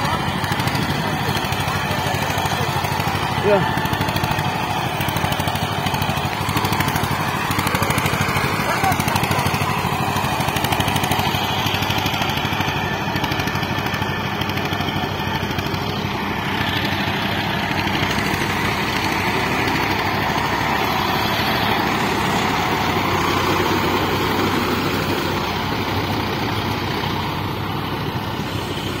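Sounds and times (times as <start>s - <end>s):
tractor diesel engine chugging: 0.0s - 29.0s.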